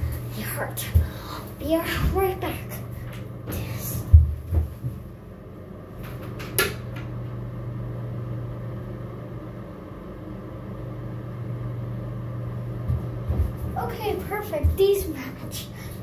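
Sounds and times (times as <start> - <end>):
exhaust fan humming: 0.0 - 16.0.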